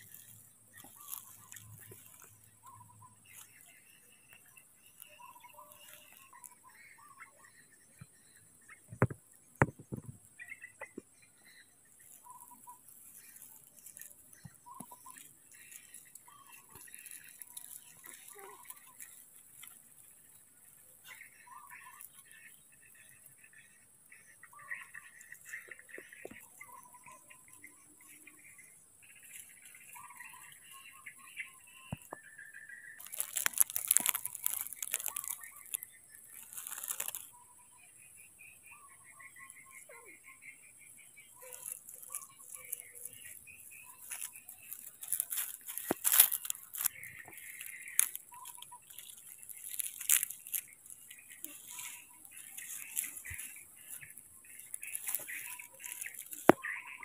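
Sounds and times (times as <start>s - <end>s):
dry leaves and twigs crackling: 0.0s - 57.0s
faint high chirps: 0.0s - 57.0s.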